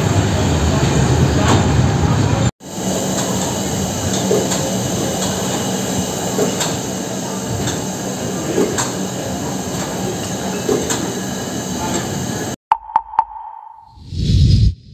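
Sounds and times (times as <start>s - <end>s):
steam locomotive hissing: 0.0s - 12.6s.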